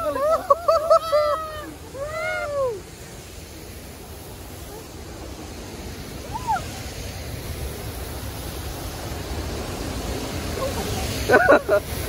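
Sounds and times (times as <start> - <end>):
rushing river and waterfalls: 0.0 - 12.0.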